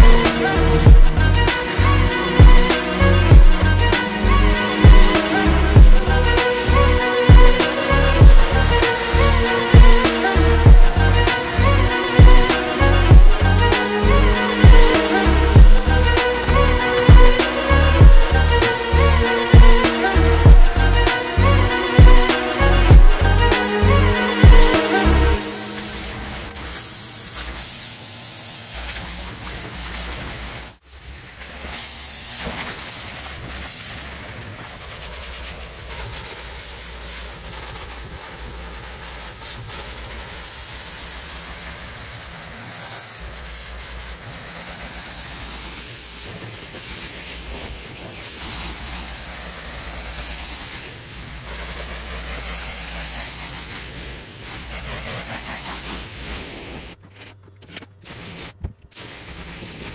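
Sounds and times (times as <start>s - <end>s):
pressure washer spraying stone: 0.0s - 57.0s, 58.0s - 59.9s.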